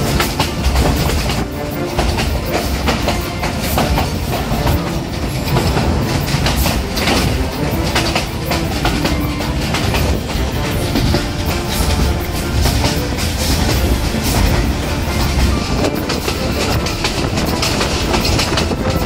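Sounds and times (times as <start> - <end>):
train wheels clattering on track: 0.0 - 19.0.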